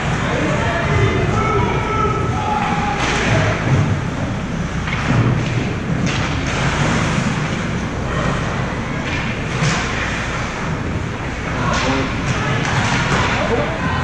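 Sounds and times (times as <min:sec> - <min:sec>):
echoing arena rumble: 0:00.0 - 0:14.0.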